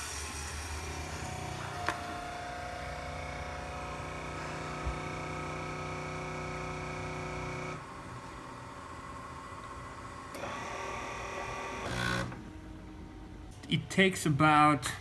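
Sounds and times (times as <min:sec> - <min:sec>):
drink maker mechanical hum: 0:00.0 - 0:13.8.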